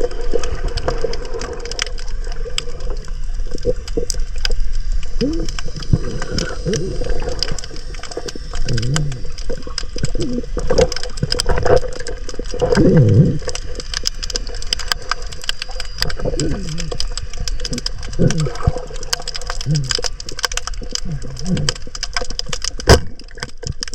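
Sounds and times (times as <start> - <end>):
low pitch-bending underwater sounds: 0.0 - 23.9
underwater crackle of clicks: 0.0 - 23.9.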